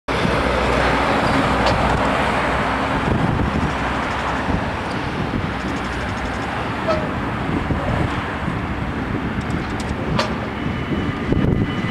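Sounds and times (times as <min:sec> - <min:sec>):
road traffic noise: 0:00.1 - 0:11.9
wind on microphone: 0:00.1 - 0:11.9.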